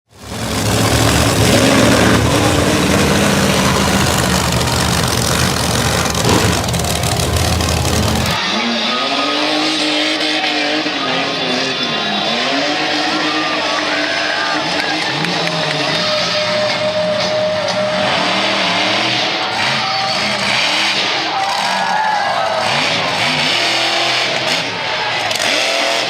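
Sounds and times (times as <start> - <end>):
monster truck engines revving: 0.1 - 26.0.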